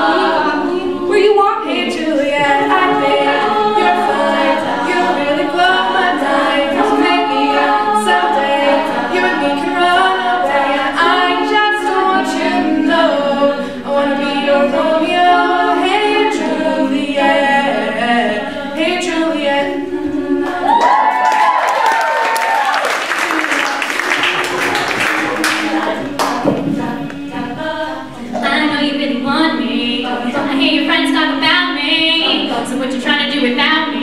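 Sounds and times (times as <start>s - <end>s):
girls singing a cappella harmony: 0.0s - 22.3s, 22.9s - 34.0s.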